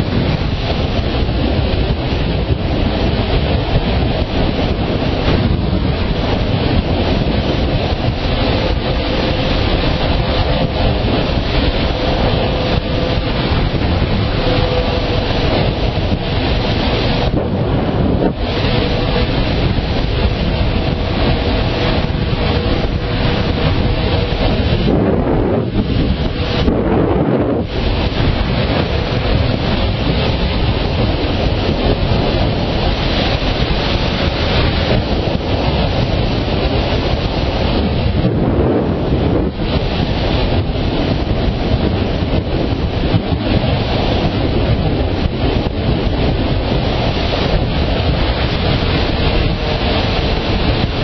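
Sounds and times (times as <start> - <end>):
motorcycle engine hum: 0.0 - 51.0
wind rushing over microphone: 0.0 - 51.0.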